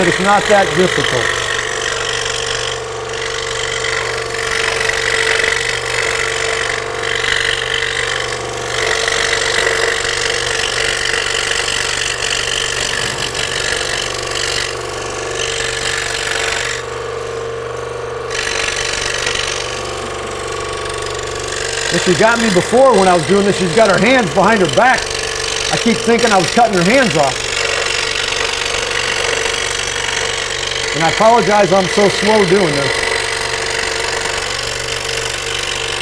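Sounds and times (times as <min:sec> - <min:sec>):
saw motor hum: 0:00.0 - 0:36.0
scroll saw cutting plywood: 0:00.0 - 0:36.0.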